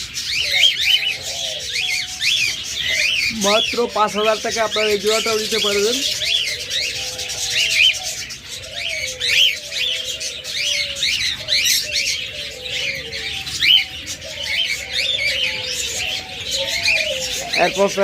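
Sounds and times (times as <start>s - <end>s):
birds chirping and squawking: 0.0s - 18.0s
low long bird notes: 0.0s - 18.0s.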